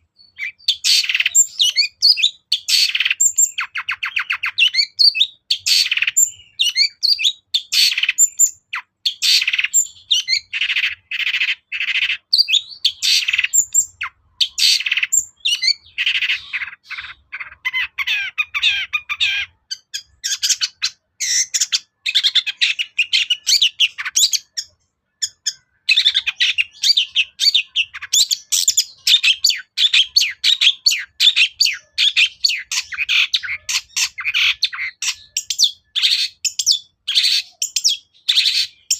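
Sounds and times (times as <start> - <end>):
bird singing chattering whistled song: 0.0 - 38.9.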